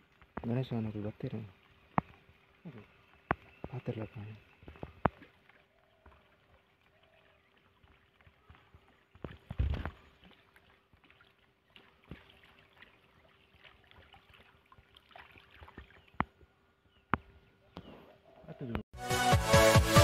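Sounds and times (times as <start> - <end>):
lure splashing on water: 0.0 - 17.4.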